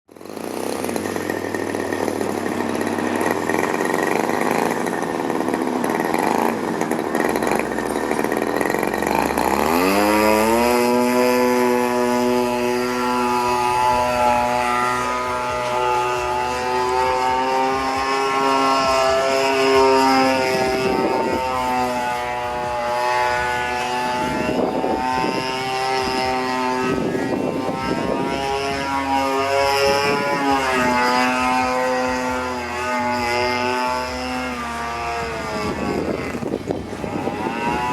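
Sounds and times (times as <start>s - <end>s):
model airplane engine buzzing: 0.0s - 37.9s.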